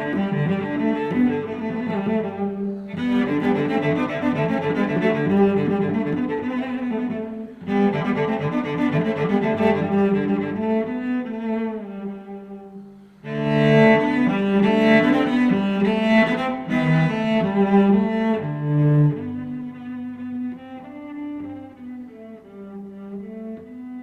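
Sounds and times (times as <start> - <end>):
low bowed string notes: 0.0 - 24.0.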